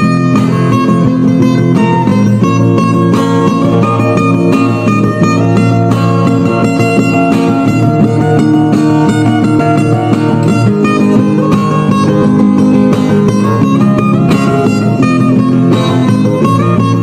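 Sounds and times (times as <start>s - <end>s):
guitar plucked melody: 0.0s - 17.0s.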